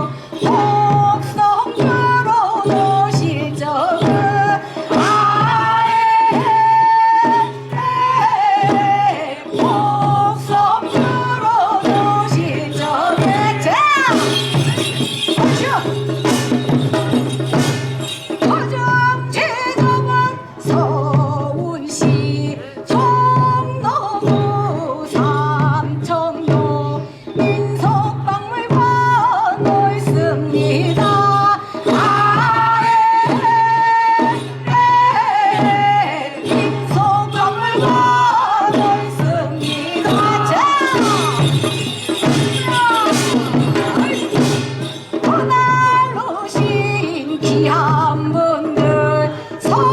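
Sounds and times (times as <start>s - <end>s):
drums and gong rhythm: 0.0s - 49.9s
person singing folk song: 0.0s - 49.9s.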